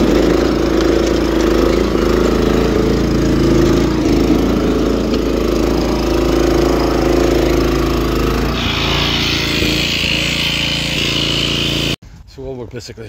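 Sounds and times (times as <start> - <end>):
rotavator petrol engine running: 0.0 - 12.0.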